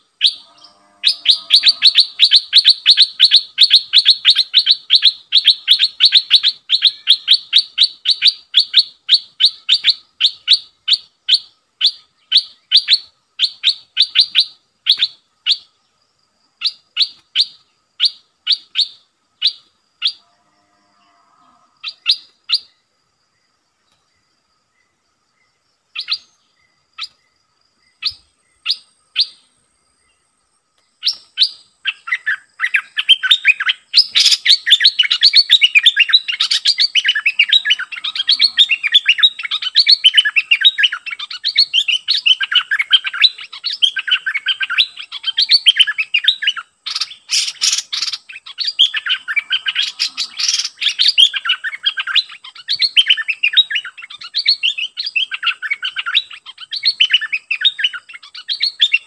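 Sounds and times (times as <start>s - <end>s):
birds chattering warble: 0.0s - 59.0s.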